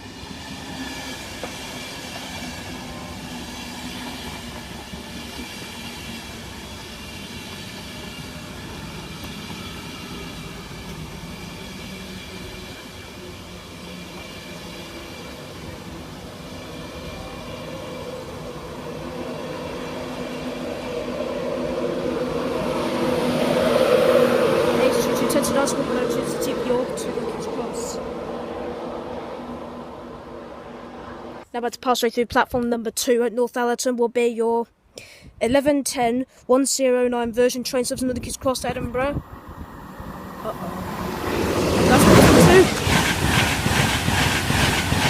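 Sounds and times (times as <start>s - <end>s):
train wheels rumbling on rail: 0.0s - 31.4s, 38.2s - 45.0s.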